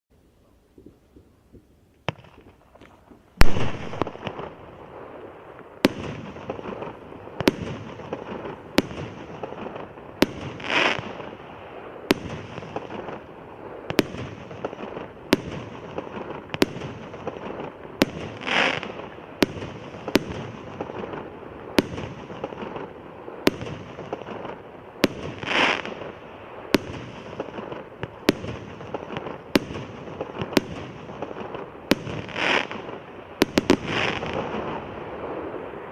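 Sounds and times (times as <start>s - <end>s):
fireworks crackling: 0.6s - 35.9s
fireworks hissing bursts: 3.4s - 35.9s
fireworks sharp reports: 3.4s - 35.9s.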